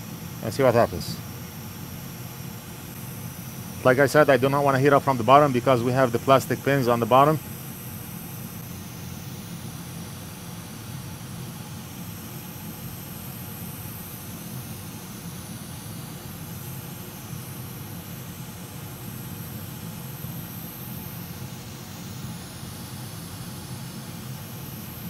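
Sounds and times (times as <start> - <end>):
hot air station blowing: 0.0 - 25.0.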